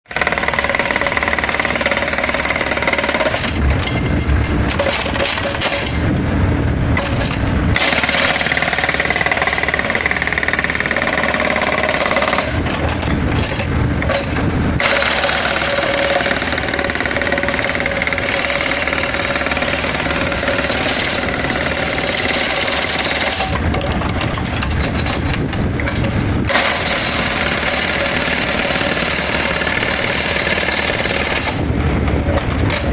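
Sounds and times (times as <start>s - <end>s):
hydraulic rock breaker hammering: 0.1s - 6.2s, 7.0s - 32.9s
excavator diesel engine and hydraulics: 0.1s - 32.9s.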